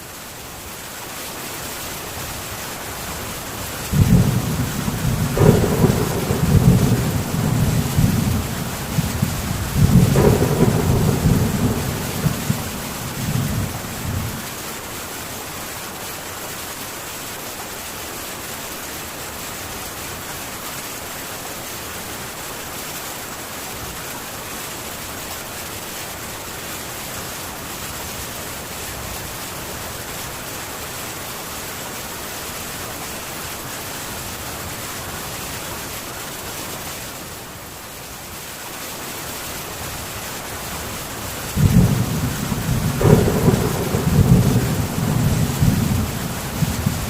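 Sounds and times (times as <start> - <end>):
heavy rain on a tin roof: 0.0 - 47.0.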